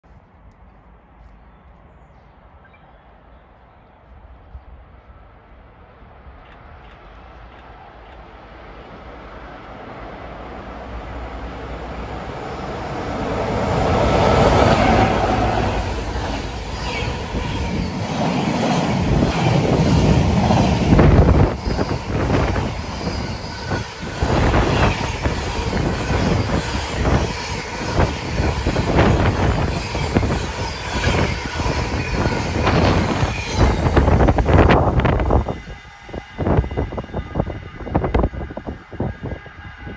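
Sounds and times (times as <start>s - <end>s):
locomotives passing: 5.2s - 39.7s.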